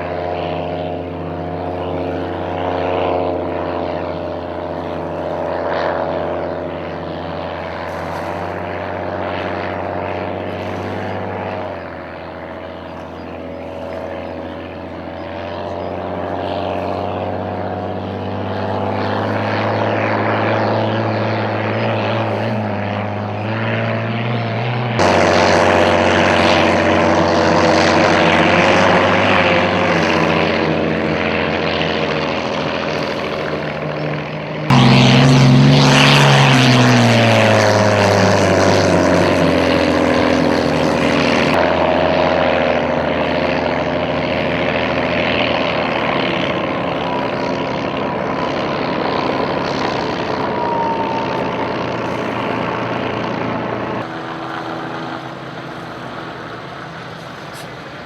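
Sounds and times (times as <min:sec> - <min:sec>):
racing boat engine drone: 0:00.0 - 0:58.0.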